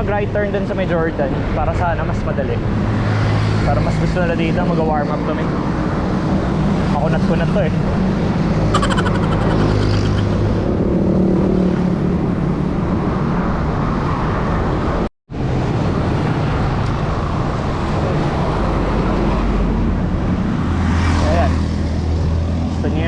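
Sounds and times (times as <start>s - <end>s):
road and traffic noise: 0.0s - 23.0s.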